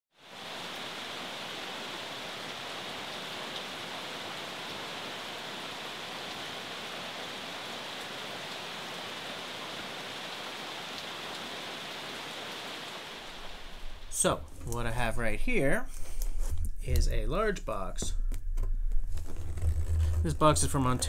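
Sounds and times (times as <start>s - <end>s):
steady rushing hiss: 0.2s - 18.2s.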